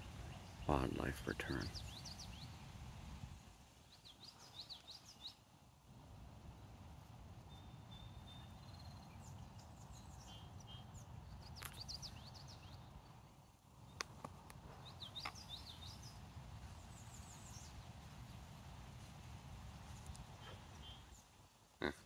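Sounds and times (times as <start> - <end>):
small birds chirping: 0.0 - 2.7, 3.8 - 5.5, 7.4 - 18.6, 19.8 - 22.0.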